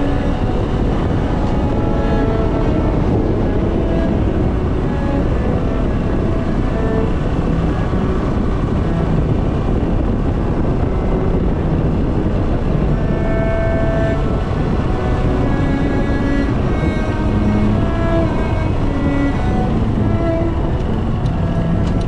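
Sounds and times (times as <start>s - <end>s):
wind on microphone: 0.0s - 22.0s.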